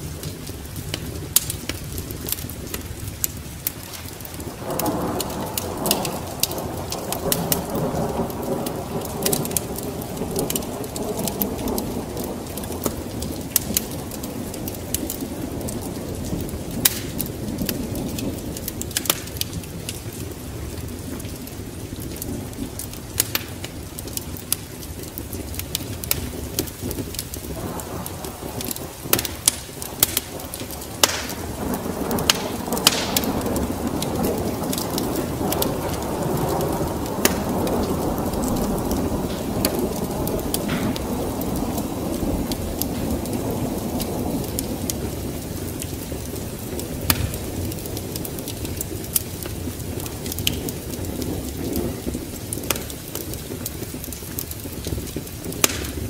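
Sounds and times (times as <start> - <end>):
rain: 0.0 - 56.0
rolling thunder: 0.0 - 56.0
wood fire crackling: 0.0 - 56.0.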